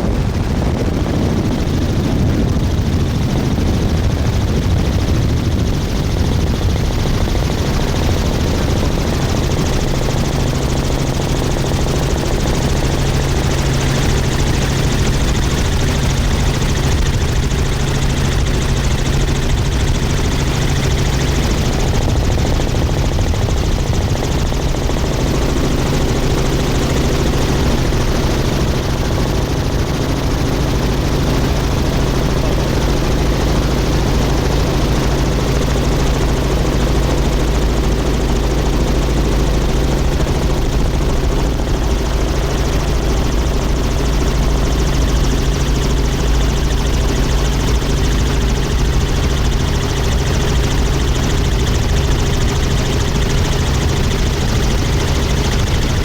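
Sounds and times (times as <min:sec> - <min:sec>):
helicopter engine and rotor noise: 0:00.0 - 0:56.0.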